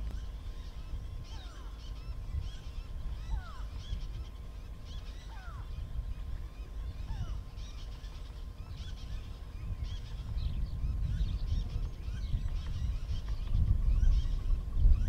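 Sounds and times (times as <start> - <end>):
birds chattering: 0.0 - 15.0.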